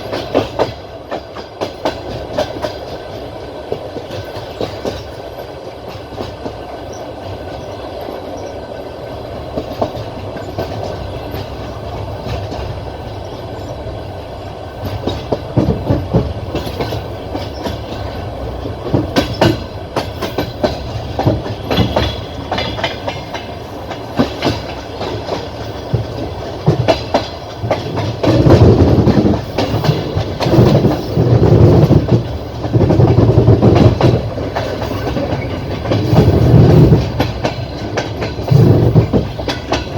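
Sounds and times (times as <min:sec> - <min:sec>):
train wheels clacking: 0:00.0 - 0:39.9
train wheels rumbling on rails: 0:00.0 - 0:39.9.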